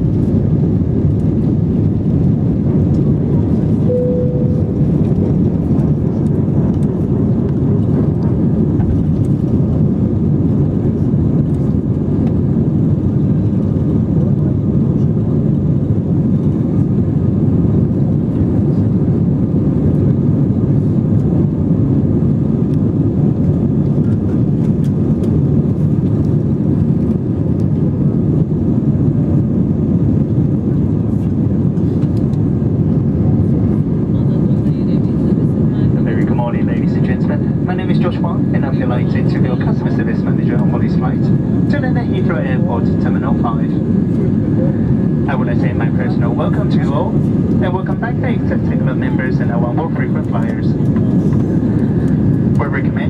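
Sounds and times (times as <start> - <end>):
jet airliner cabin roar: 0.0 - 53.0.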